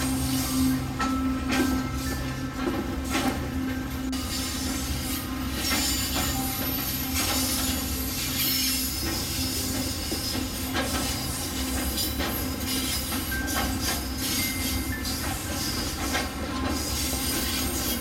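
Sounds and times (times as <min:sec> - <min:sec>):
train wheels on rail: 0:00.0 - 0:18.0.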